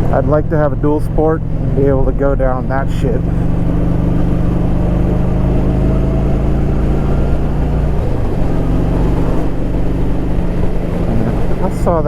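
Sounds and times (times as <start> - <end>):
motorcycle engine running: 0.0 - 12.0
road and wind rumble: 0.0 - 12.0.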